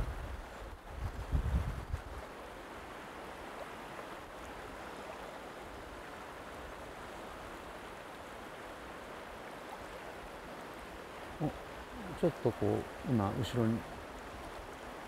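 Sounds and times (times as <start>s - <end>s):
river flowing over stones: 0.0s - 15.0s.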